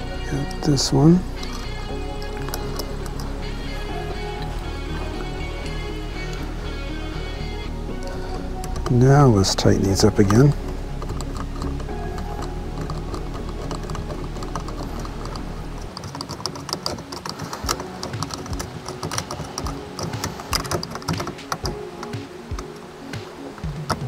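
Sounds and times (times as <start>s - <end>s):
background music: 0.0s - 24.0s
screwdriver tightening screws: 1.3s - 6.6s, 8.0s - 22.7s.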